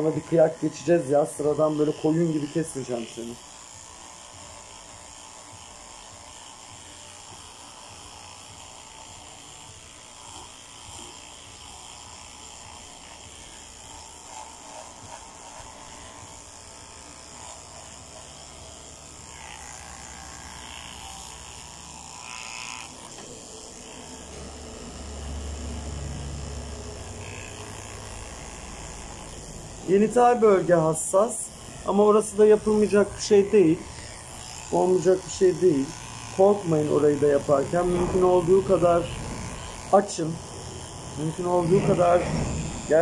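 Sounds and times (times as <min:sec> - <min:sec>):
electric clippers buzzing: 0:00.0 - 0:43.0.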